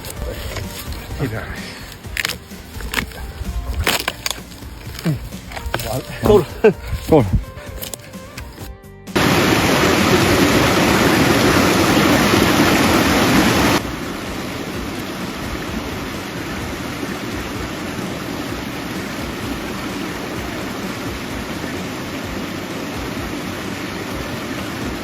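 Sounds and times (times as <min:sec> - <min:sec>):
spring water running and splashing: 0:00.0 - 0:25.0.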